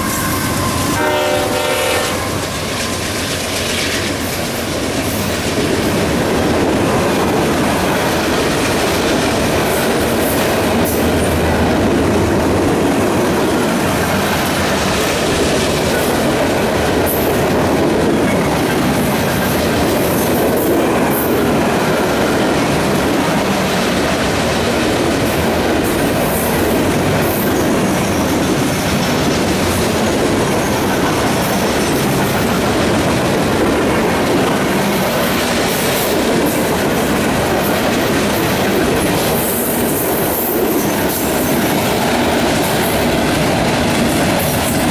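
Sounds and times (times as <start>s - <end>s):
train wheels clattering on rails: 0.0s - 44.9s.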